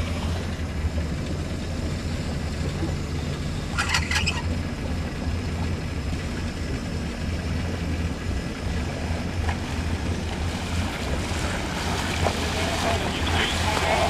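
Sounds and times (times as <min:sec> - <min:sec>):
motorboat engine idling: 0:00.0 - 0:14.0.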